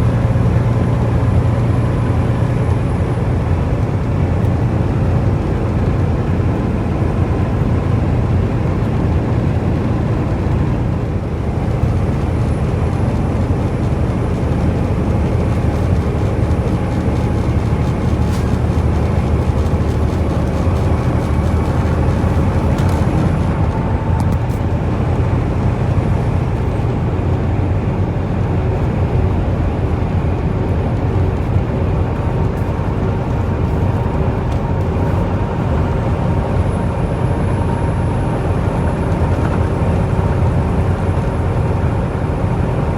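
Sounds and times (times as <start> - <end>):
road noise: 0.0 - 42.9
truck engine drone: 0.0 - 42.9.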